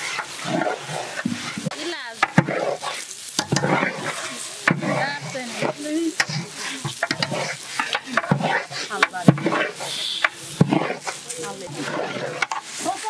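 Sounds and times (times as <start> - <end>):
rice scraping in pot: 0.0 - 13.0.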